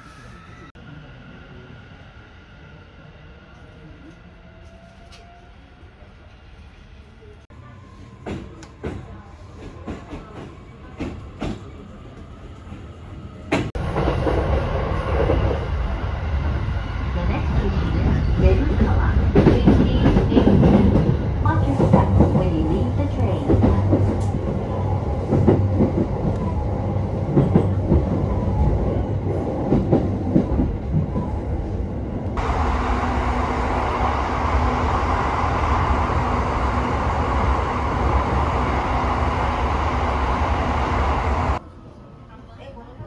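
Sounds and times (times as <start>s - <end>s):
train rumbling on rails: 0.0s - 43.0s.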